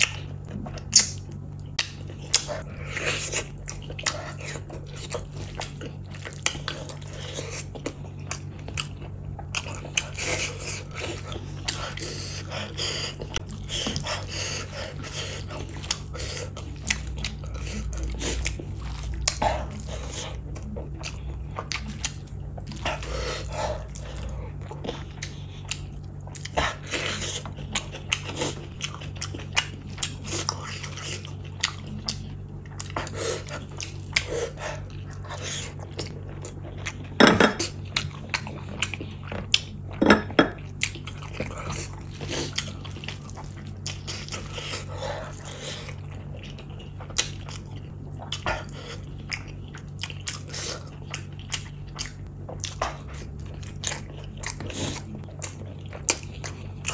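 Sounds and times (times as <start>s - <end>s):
low hum: 0.0s - 56.9s
wet chewing and mouth smacking: 0.0s - 56.9s.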